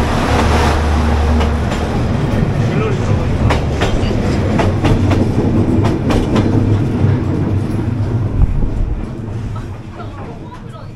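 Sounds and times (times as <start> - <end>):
passenger train passing: 0.0 - 10.9
wheels clacking over rail joints: 0.0 - 10.9.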